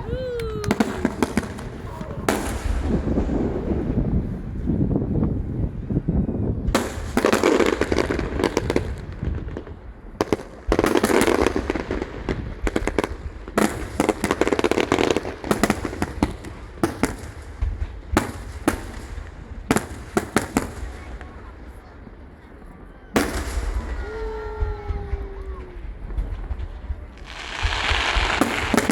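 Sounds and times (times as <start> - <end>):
fireworks crackling bursts: 0.0 - 4.8, 6.6 - 28.9
fireworks sharp bangs: 0.0 - 5.2, 6.6 - 28.9.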